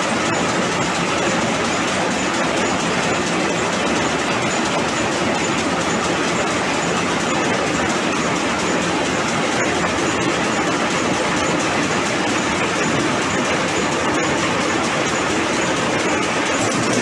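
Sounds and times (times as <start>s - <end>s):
loom mechanical clatter: 0.0s - 17.0s.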